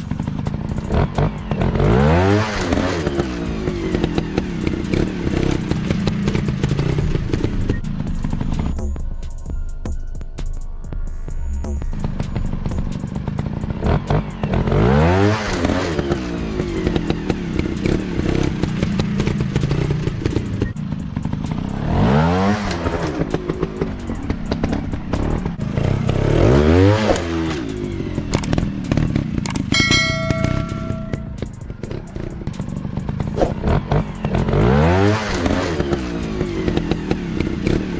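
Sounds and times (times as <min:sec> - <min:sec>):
dirt bike engines revving: 0:00.0 - 0:08.7, 0:12.1 - 0:37.9.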